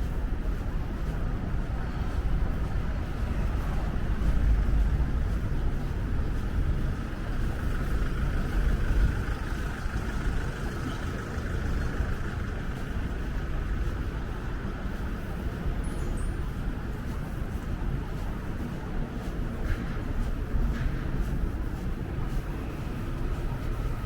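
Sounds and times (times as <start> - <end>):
road traffic rumble and hiss: 0.0 - 24.0.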